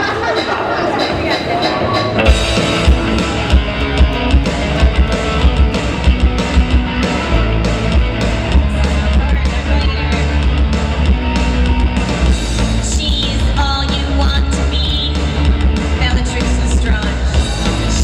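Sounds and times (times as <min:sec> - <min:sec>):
live rock band: 0:01.0 - 0:18.0.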